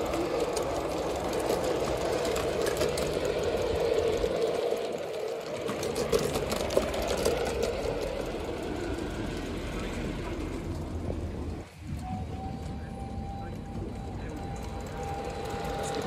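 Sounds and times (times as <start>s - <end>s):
model locomotive motor whirring: 0.0s - 16.0s.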